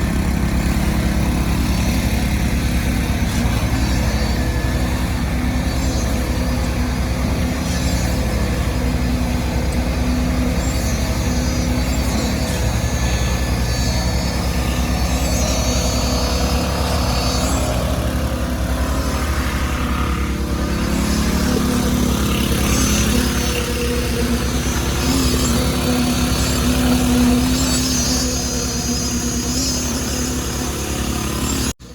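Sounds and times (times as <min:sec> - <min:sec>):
truck engine running steadily: 0:00.0 - 0:31.9.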